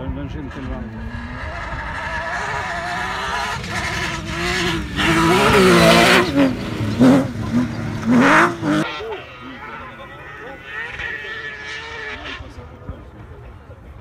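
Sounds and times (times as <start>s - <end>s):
buggy engine revving: 0.0s - 13.1s.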